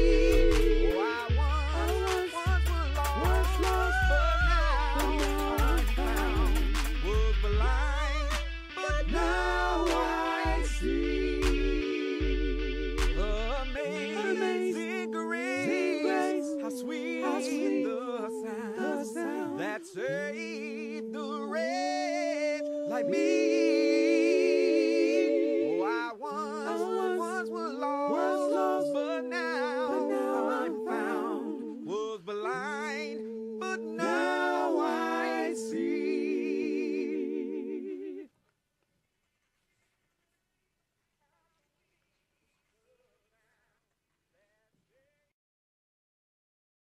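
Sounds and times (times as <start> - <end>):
voices singing in harmony: 0.0 - 38.3.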